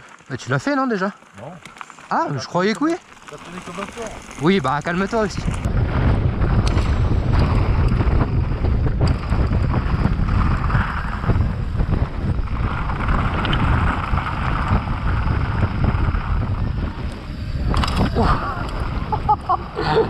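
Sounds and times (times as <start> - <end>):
mountain bike rumbling and rattling: 0.0 - 20.0
wind buffeting microphone: 2.5 - 20.0.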